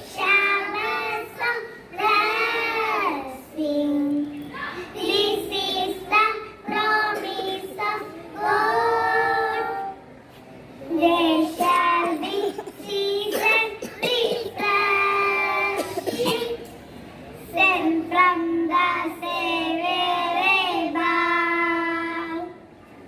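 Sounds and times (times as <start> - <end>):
children singing together: 0.0 - 10.0, 10.9 - 16.7, 17.5 - 22.6.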